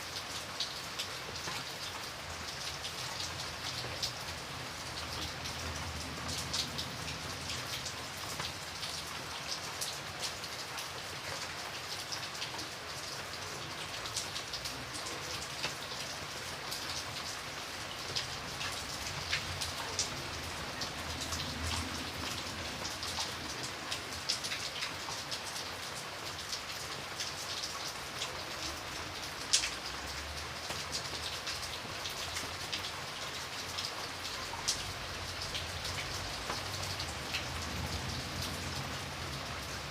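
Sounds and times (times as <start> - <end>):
steady rain falling: 0.0 - 39.9
raindrops tapping on a surface: 4.8 - 39.9.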